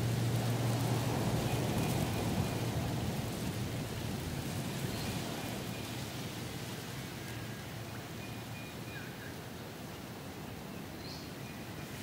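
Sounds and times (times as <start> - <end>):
strong wind rushing through trees: 0.0 - 12.0.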